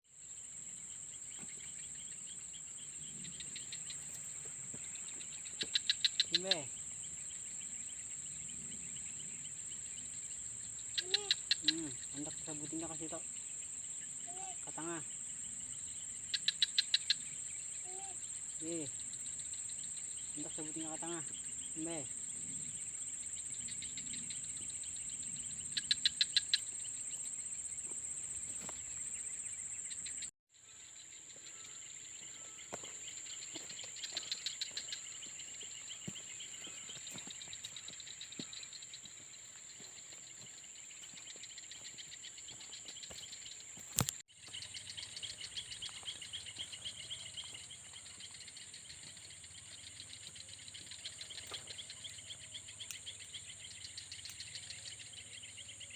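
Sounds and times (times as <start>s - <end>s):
insects chirping in pulses: 0.1s - 55.9s
insects trilling: 0.1s - 55.9s.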